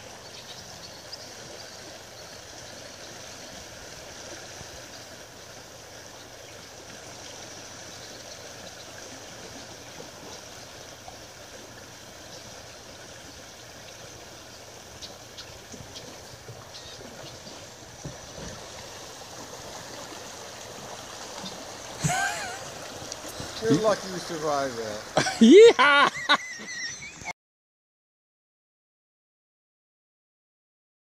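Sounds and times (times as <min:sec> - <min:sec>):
river water rushing over gravel: 0:00.0 - 0:27.2.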